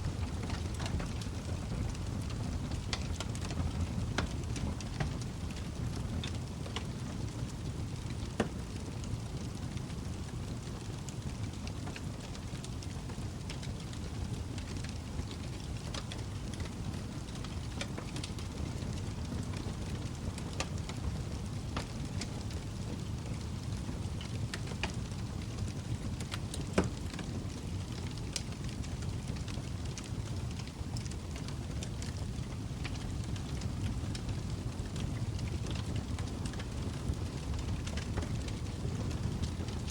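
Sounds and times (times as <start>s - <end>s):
fire crackles and pops: 0.0s - 39.9s
fire flames rumbling: 0.0s - 39.9s.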